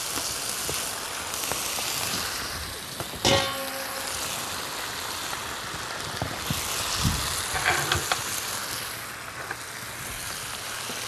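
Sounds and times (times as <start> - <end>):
food sizzling in a skillet: 0.0 - 11.0.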